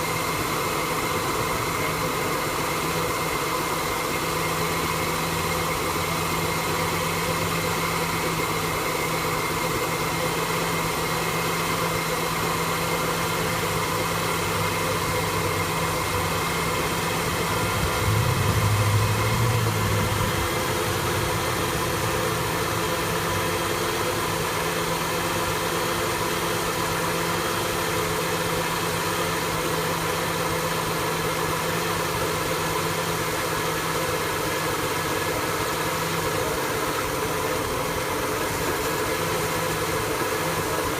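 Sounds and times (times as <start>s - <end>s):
truck engine idling roughly: 0.0s - 40.9s.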